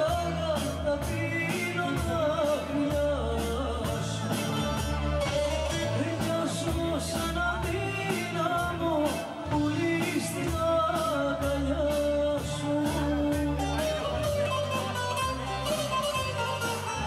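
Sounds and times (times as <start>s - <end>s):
bass line: 0.0s - 17.0s
drums keeping a steady beat: 0.0s - 17.0s.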